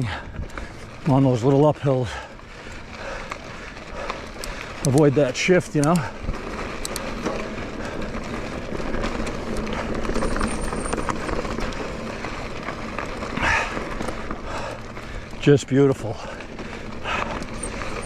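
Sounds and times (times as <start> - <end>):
bike clicks and rattles: 0.0 - 18.0
tyres rushing on gravel trail: 0.0 - 18.0.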